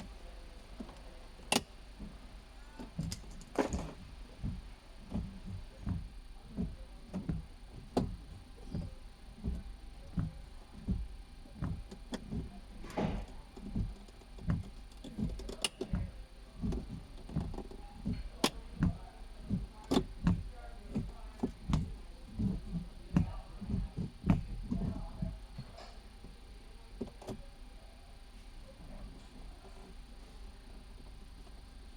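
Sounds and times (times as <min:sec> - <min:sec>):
light knocks and thumps: 0:00.8 - 0:26.4.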